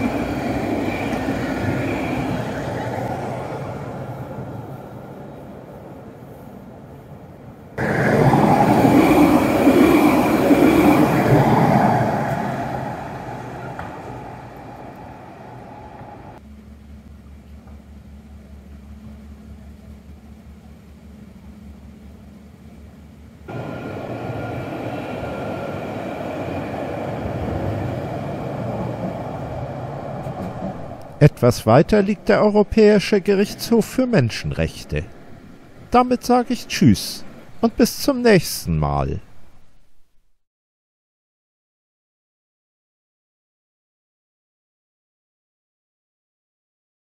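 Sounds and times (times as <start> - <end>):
tram wheels rumbling on rail: 0.0 - 37.8.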